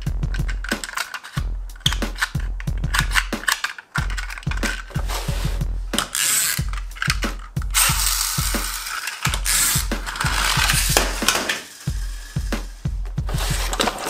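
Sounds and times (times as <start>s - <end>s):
background music with steady beat: 0.0s - 14.0s
toy mechanism clicking and ratcheting: 0.3s - 5.0s, 6.0s - 12.5s
toy wheels rolling on wooden floor: 0.3s - 12.4s, 13.3s - 14.0s.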